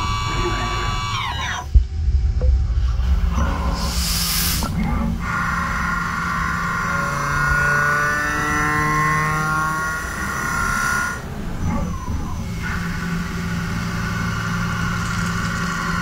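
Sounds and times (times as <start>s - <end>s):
machine running rumble: 0.0s - 16.0s.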